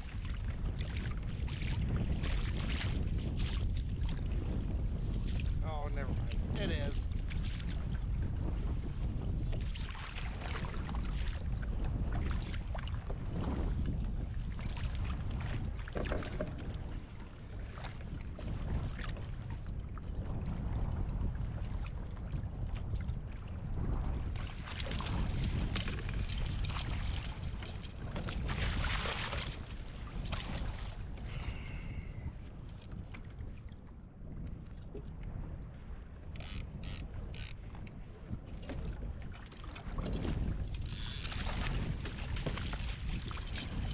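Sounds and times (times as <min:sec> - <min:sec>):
wind buffeting microphone: 0:00.0 - 0:43.9
waves splashing against hull: 0:00.1 - 0:43.9.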